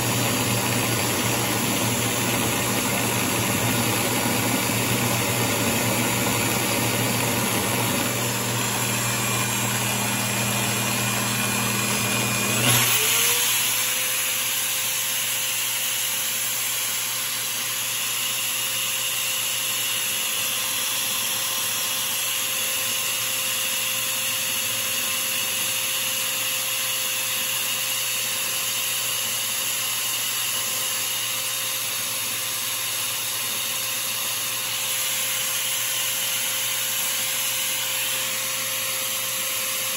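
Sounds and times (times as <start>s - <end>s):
electric drill spinning: 0.0s - 39.9s.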